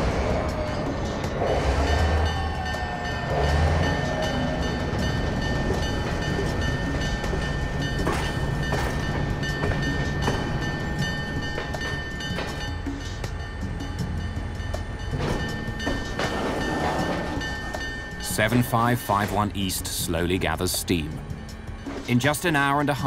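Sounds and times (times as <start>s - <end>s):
diesel locomotive rumble: 0.0s - 23.0s.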